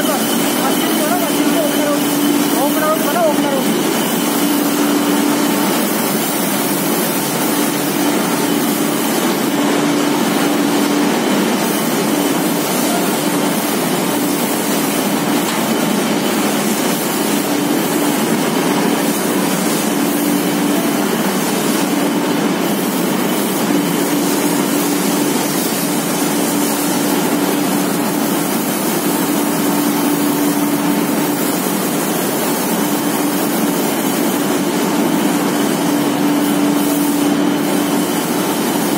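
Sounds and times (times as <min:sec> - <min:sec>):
loud mechanical din of machines: 0:00.0 - 0:38.9.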